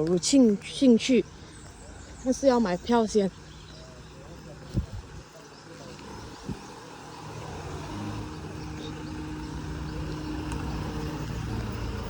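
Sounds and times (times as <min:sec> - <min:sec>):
motor vehicle running: 0:01.6 - 0:12.0.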